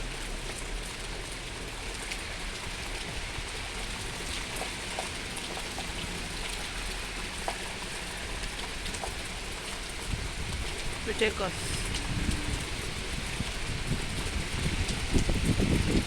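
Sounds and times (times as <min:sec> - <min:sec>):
raindrop ticks: 0:00.0 - 0:16.0
storm rain falling: 0:00.0 - 0:16.0.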